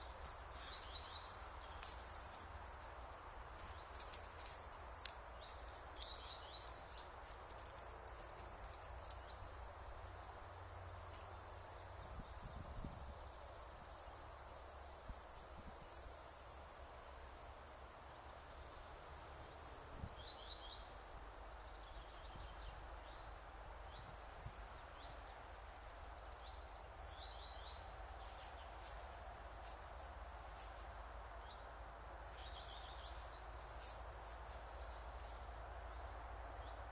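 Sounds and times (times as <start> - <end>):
microphone hiss and rumble: 0.0 - 36.9.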